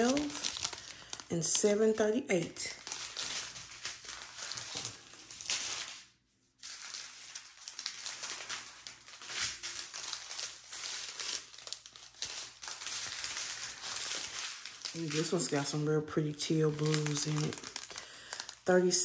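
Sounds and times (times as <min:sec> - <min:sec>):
small plastic bags crinkling: 0:00.0 - 0:19.0.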